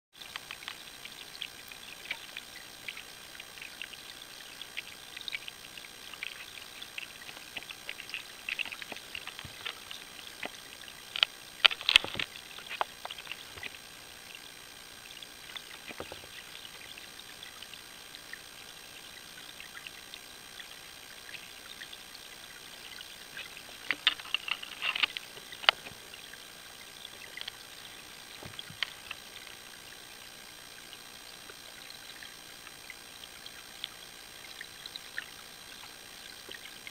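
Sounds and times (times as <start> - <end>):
underwater crackle of ticks: 0.2 - 36.9.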